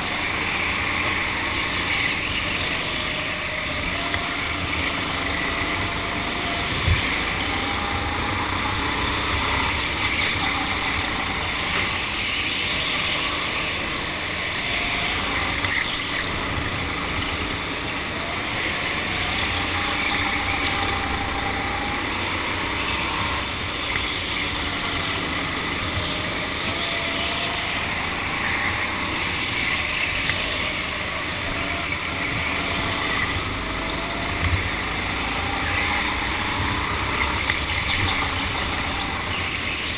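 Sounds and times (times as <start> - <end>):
go-kart motor running: 0.0 - 39.9
steady rushing noise: 0.0 - 39.9.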